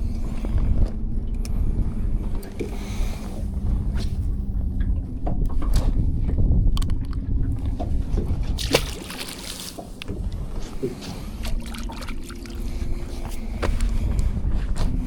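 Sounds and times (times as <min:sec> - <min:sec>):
low rumble: 0:00.0 - 0:15.0
water sloshing against boat hull: 0:00.0 - 0:15.0.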